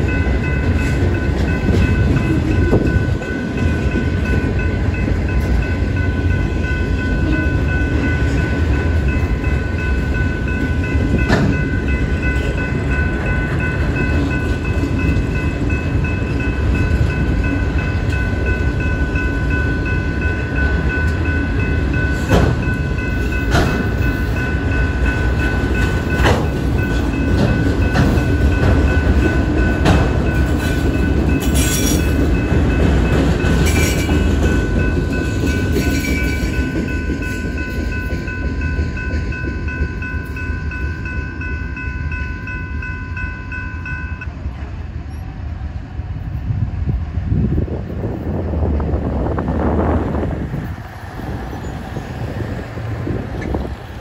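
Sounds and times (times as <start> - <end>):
crossing signal bell ringing: 0.0 - 44.5
sharp clanks of train cars: 0.0 - 45.4, 47.7 - 54.0
freight train wheels rumbling: 0.0 - 54.0.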